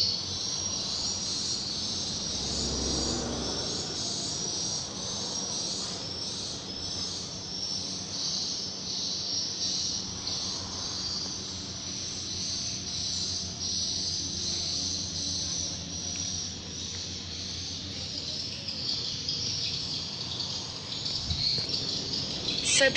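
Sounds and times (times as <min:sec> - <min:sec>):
high-pitched insect chirping: 0:00.0 - 0:22.9.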